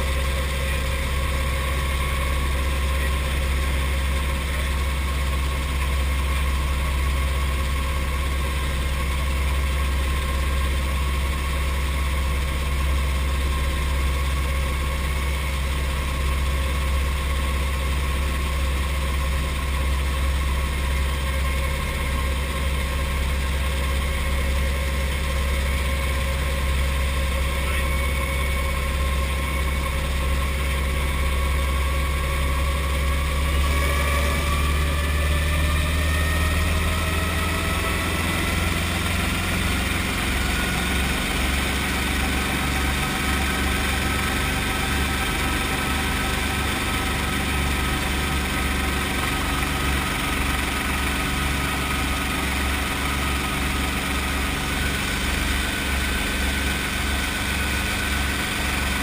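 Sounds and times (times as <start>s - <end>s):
helicopter engine throbbing: 0.0s - 59.0s.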